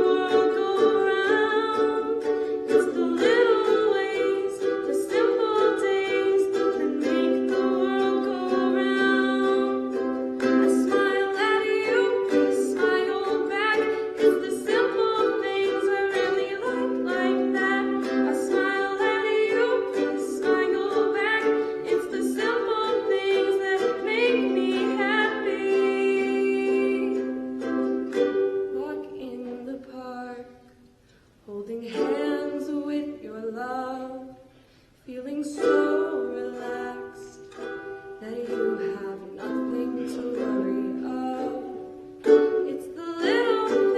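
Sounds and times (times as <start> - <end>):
person singing: 0.0 - 30.7, 31.5 - 34.4, 35.1 - 43.9
plucked string instrument: 0.0 - 43.9.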